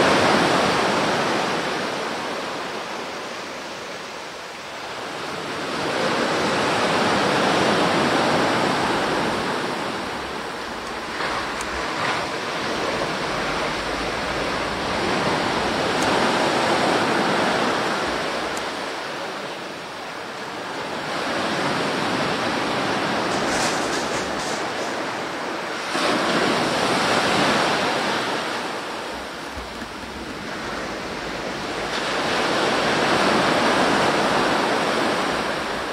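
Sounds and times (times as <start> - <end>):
waves breaking on beach: 0.0 - 35.9.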